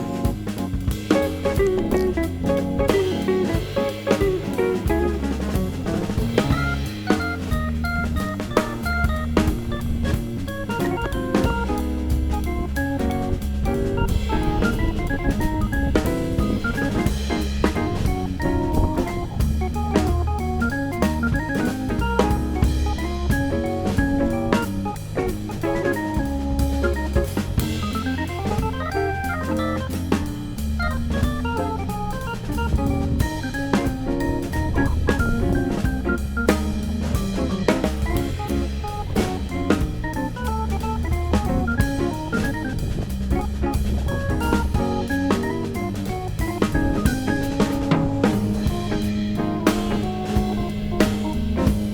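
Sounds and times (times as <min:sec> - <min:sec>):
organ-like keyboard notes: 0:00.0 - 0:51.9
steady drum beat: 0:00.0 - 0:51.9.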